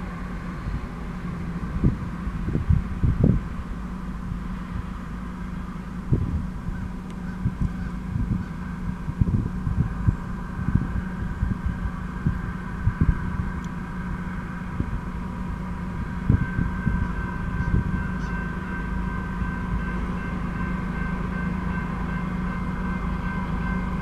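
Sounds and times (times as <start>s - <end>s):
wind buffeting microphone: 0.0s - 24.0s
railroad crossing bell ringing: 3.4s - 9.2s, 9.9s - 24.0s.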